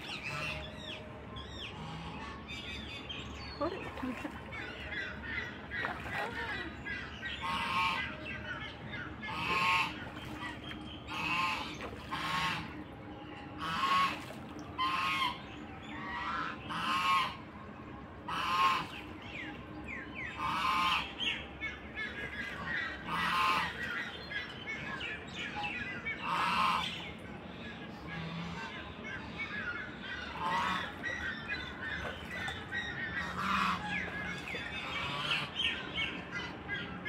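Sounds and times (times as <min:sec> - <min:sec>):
ducks quacking: 0:00.0 - 0:01.0, 0:01.6 - 0:12.9, 0:13.6 - 0:17.5, 0:18.3 - 0:19.2, 0:20.3 - 0:37.0.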